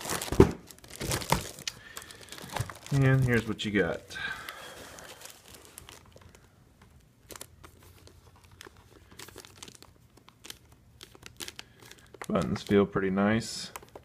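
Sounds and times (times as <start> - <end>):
packaging crinkling: 0.0 - 12.9, 13.6 - 14.0.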